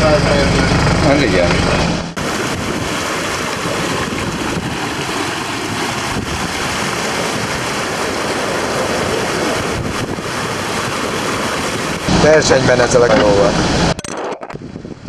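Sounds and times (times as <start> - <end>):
sea water rushing along hull: 0.0 - 14.0
wind buffeting microphone: 0.0 - 15.0.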